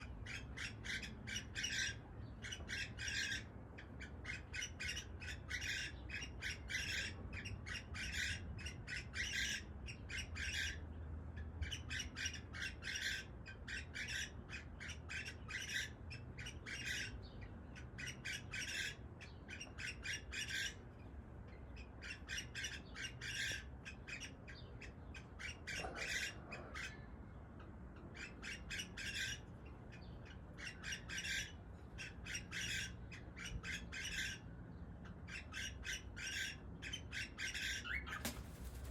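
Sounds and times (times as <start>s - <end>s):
cockatiel chirping and squawking: 0.2s - 10.8s, 11.6s - 20.8s, 21.8s - 27.1s, 28.0s - 38.9s.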